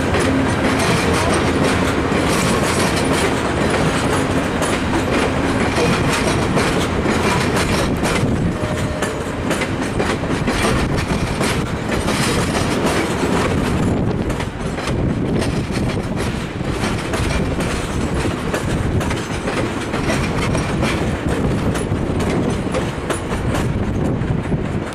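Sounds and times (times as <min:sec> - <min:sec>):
train wheels clattering over rail joints: 0:00.0 - 0:24.9.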